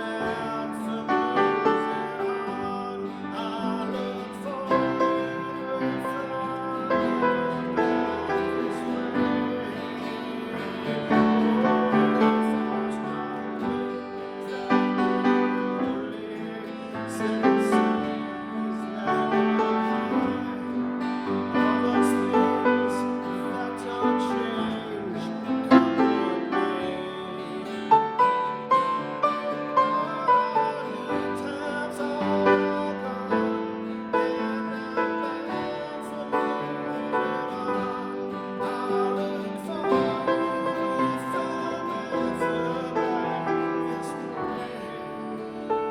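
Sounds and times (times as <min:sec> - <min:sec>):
keyboard chords: 0:00.0 - 0:45.9
live folk music: 0:00.0 - 0:45.9.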